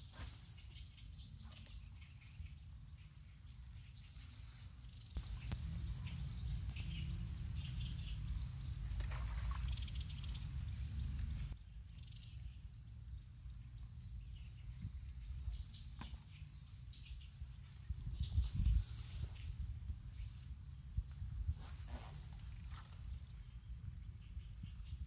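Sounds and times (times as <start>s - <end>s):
birds chirping: 0.0s - 20.5s
wind rumbling on microphone: 0.0s - 25.0s.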